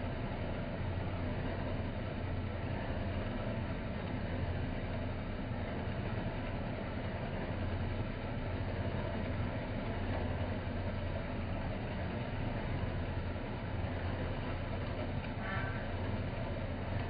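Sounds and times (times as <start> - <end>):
motor hum: 0.0 - 17.0.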